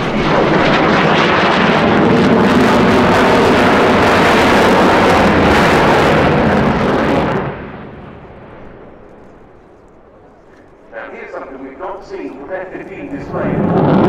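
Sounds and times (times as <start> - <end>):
faint low jet rumble: 0.0 - 14.0
jet engines in afterburner: 0.0 - 14.0.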